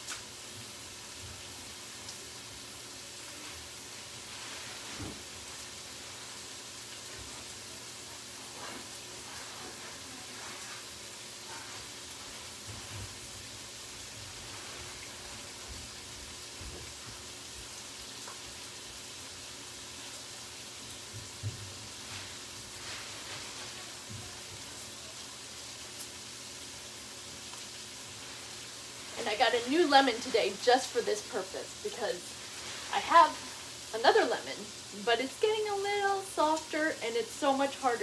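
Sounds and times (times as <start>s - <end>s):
bacon sizzling in a frying pan: 0.0s - 38.0s.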